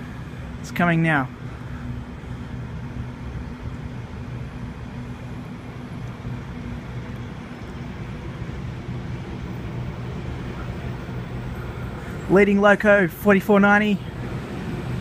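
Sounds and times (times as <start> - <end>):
locomotive engine drone: 0.0 - 15.0.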